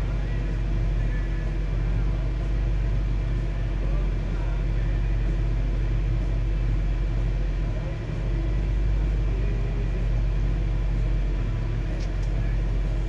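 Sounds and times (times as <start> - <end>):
engine rumble inside cabin: 0.0 - 13.0.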